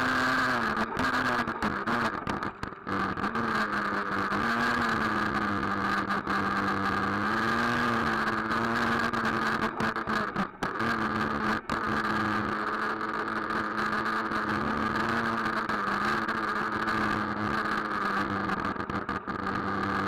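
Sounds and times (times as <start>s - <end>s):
small nitro engine buzzing: 0.0s - 20.0s.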